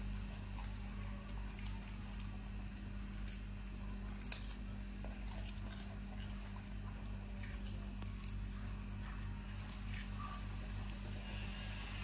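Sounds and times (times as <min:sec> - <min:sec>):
monkey chewing carrot: 0:00.2 - 0:12.0.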